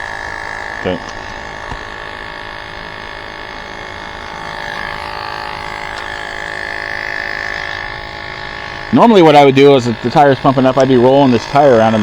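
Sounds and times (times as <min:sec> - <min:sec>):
electric tire inflator whining: 0:00.0 - 0:12.0.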